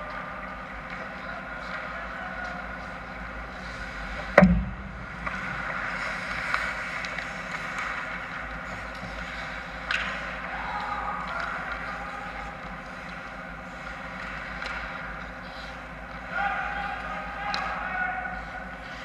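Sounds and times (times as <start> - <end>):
faint hockey game noise: 0.0 - 19.0
ice rink hum: 0.0 - 19.0.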